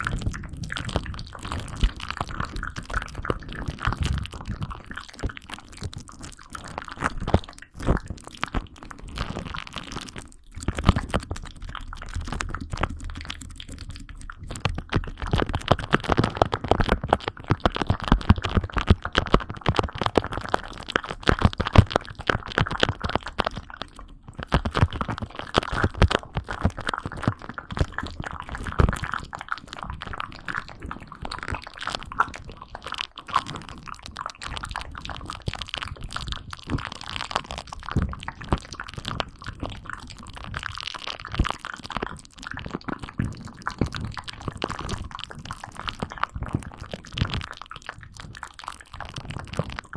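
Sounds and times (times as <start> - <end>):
crackling and crunching: 0.0 - 49.9.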